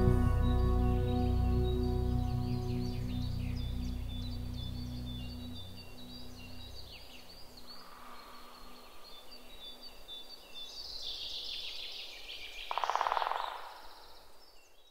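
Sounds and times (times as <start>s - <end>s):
songbirds chirping: 0.0s - 14.9s.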